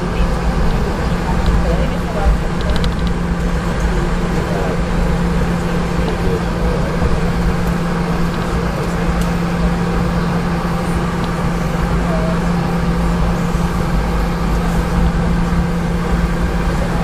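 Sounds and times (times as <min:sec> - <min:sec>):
constant low hum: 0:00.0 - 0:17.0
jet cabin engine rumble: 0:00.0 - 0:17.0.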